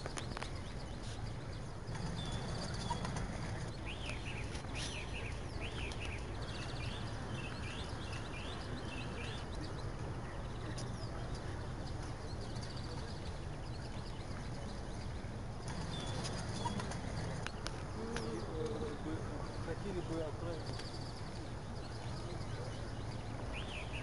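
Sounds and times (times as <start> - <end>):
low hum of city noise: 0.0 - 24.0
songbirds chirping: 0.0 - 24.0.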